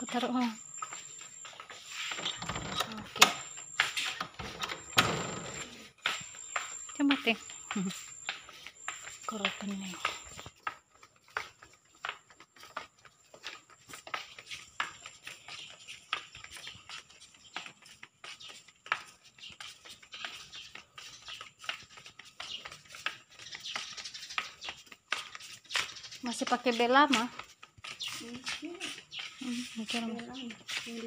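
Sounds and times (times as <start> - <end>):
footsteps on hard walkway: 0.0 - 31.0.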